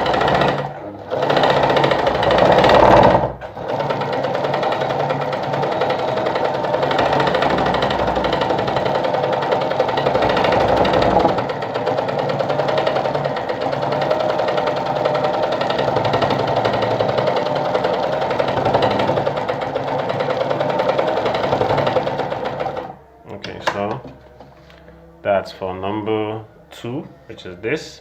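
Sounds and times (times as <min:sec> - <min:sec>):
sewing machine stitching: 0:00.0 - 0:23.0.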